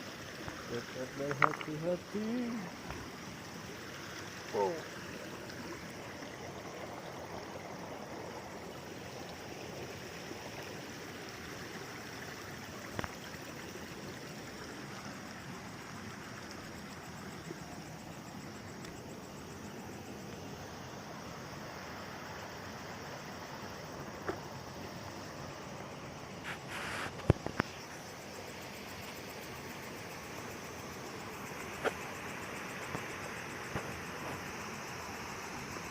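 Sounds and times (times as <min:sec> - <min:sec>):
stream water flowing: 0:00.0 - 0:35.9.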